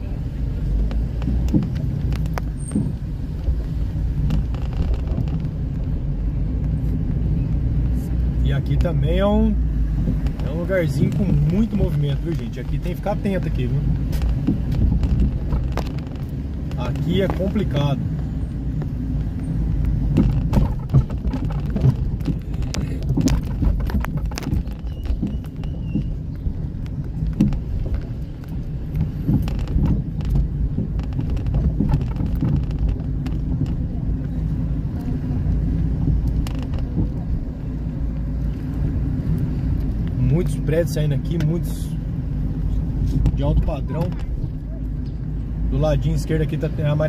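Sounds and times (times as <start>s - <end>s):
engine and tyres rumbling: 0.0s - 47.0s.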